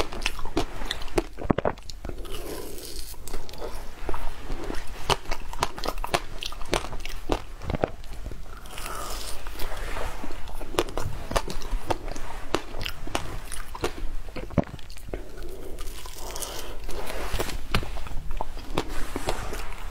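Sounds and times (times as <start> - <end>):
chewing: 0.0 - 19.9.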